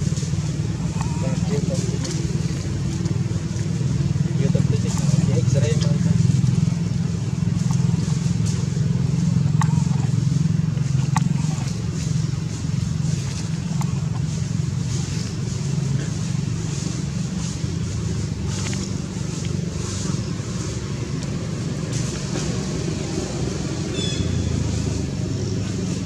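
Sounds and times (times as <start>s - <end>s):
dry leaves rustling: 0.0s - 26.0s
vehicle engine droning: 0.0s - 26.0s.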